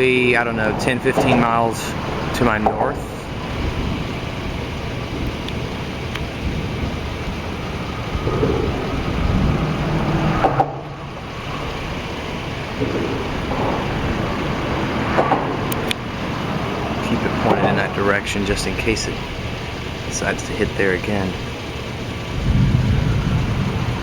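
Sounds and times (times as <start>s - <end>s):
wind and storm rumble: 0.0s - 24.0s.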